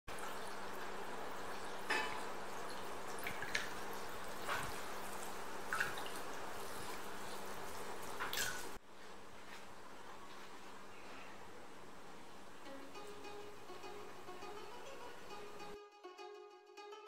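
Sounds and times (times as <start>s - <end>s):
faint steady hiss: 0.1s - 16.9s.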